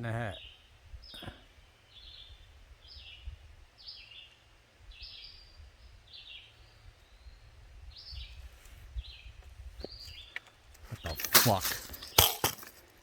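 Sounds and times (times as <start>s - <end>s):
songbird chirping: 0.0s - 12.6s.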